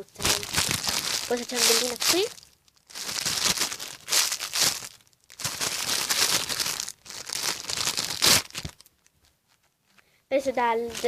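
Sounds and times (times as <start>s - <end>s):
plastic crinkling: 0.0s - 10.0s.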